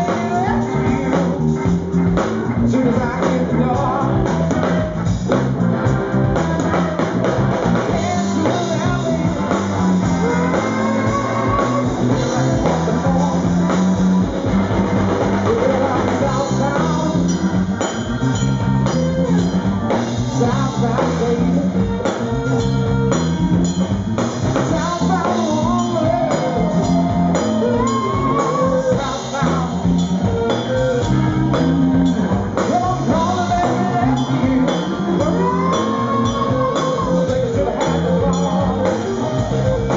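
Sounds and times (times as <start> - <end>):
man singing: 0.0 - 5.0, 6.2 - 14.5, 15.2 - 23.2, 24.6 - 39.9
bass guitar: 0.0 - 39.9
drum kit: 0.0 - 39.9
electric guitar: 0.0 - 39.9.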